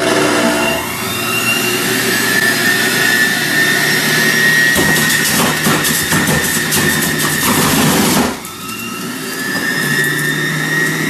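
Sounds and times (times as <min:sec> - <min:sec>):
fruit grinding: 0:00.0 - 0:11.0
juicer motor humming: 0:00.0 - 0:11.0.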